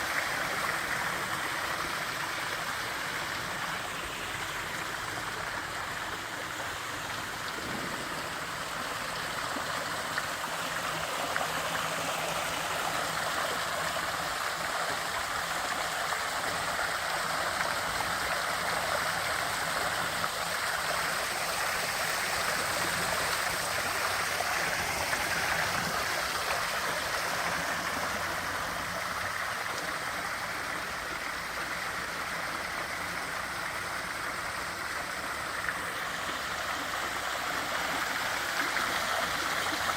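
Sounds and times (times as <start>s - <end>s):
water splashing down waterfall: 0.0s - 39.9s.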